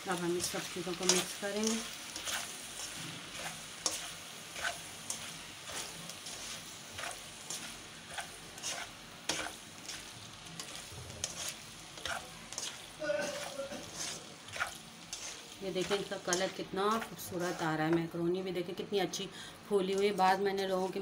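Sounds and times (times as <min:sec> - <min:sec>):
low sizzle of frying: 0:00.0 - 0:21.0
spatula scraping a pan: 0:00.3 - 0:18.0.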